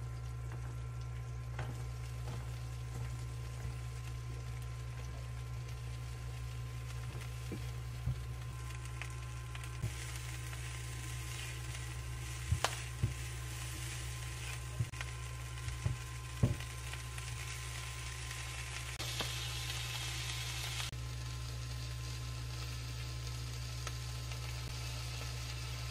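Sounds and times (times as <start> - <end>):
food sizzling in a frying pan: 0.0 - 25.9
low steady hum: 0.0 - 25.9.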